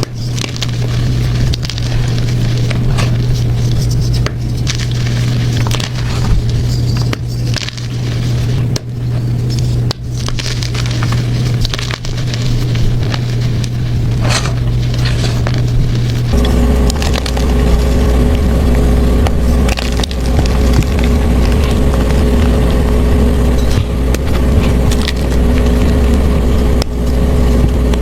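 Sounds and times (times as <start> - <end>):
chalk crunching: 0.0 - 28.0
steady low hum: 0.0 - 28.0.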